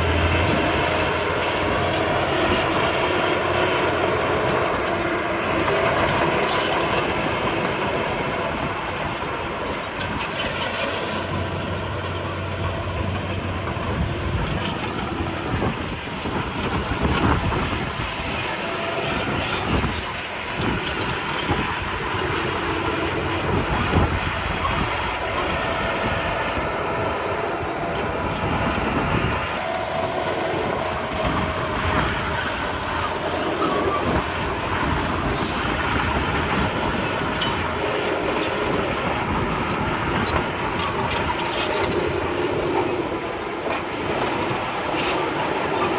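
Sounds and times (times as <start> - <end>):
bulldozer engine: 0.0 - 45.9
steel tracks clanking and squealing: 0.0 - 45.9.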